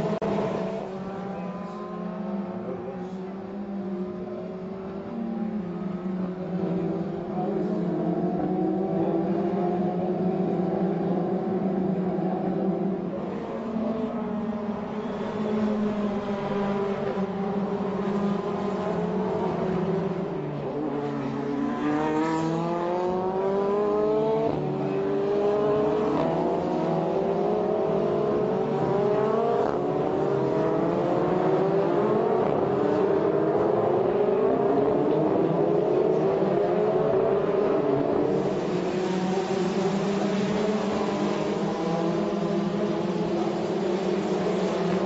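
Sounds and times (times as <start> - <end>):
racing car engines revving: 0.0 - 45.0.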